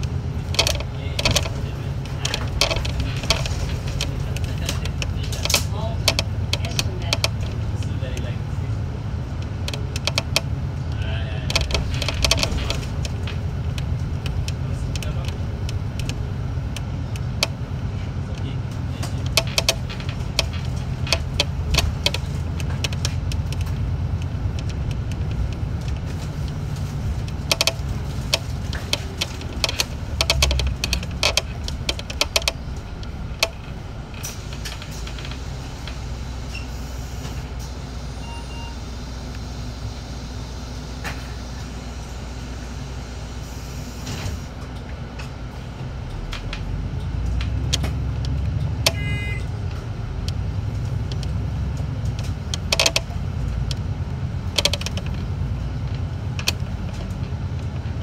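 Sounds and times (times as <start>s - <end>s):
rattles and clicks: 0.0s - 36.7s, 44.1s - 58.0s
bus engine drone: 0.0s - 58.0s.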